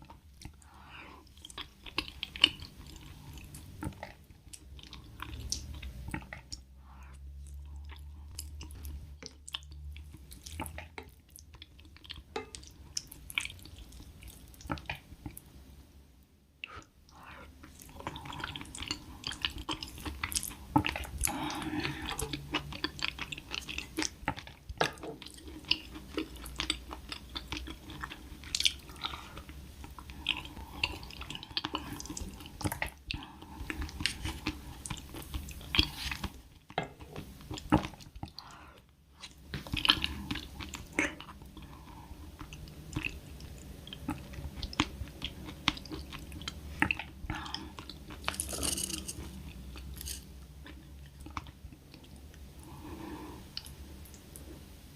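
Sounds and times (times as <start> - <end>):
person chewing food: 0.0 - 15.6, 16.6 - 54.5.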